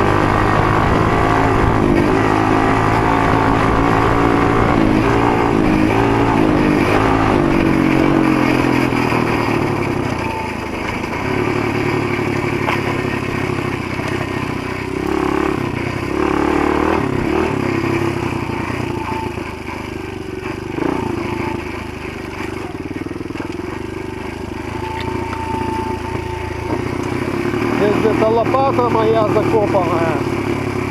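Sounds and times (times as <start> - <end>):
motorbike engine revving: 0.0 - 30.9.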